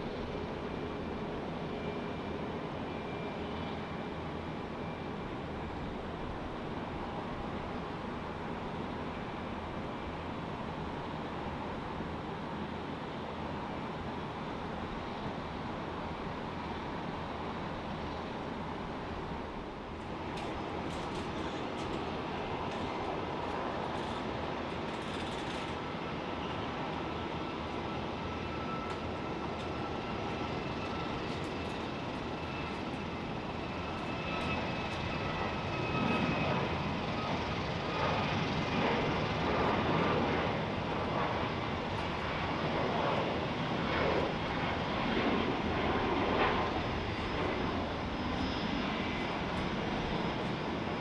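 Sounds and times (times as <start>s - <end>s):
jet engines at takeoff thrust: 0.0s - 51.0s.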